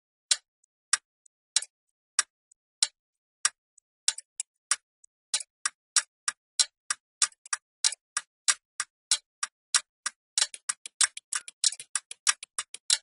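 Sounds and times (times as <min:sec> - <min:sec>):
clock ticking: 0:00.0 - 0:13.0
faint small clicks: 0:00.3 - 0:13.0.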